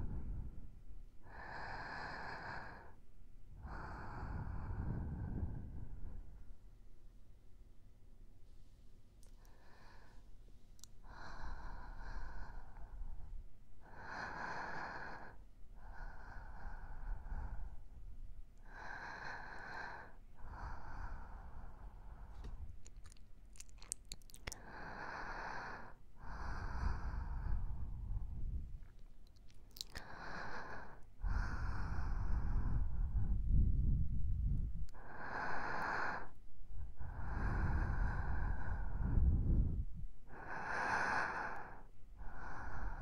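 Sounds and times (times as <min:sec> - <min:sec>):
soft breaths into microphone: 0:00.0 - 0:06.8, 0:08.4 - 0:43.0.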